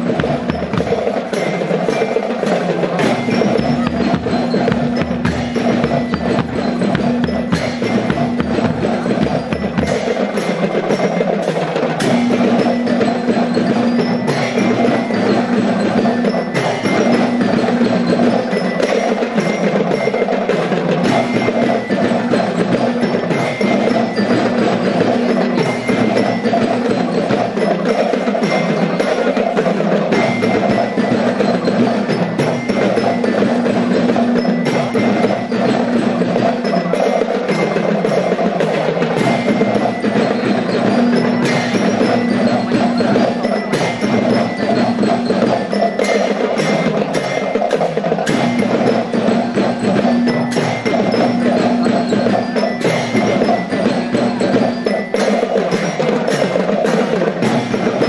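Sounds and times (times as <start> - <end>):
marching band playing: 0.0 - 58.0.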